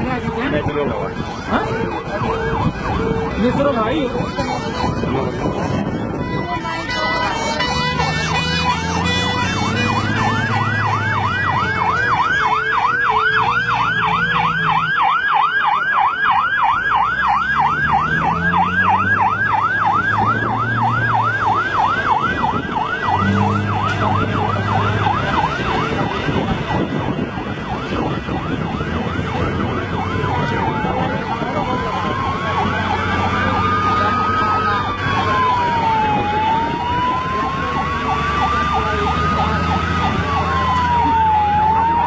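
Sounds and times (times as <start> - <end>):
fire engine siren: 0.0 - 42.0.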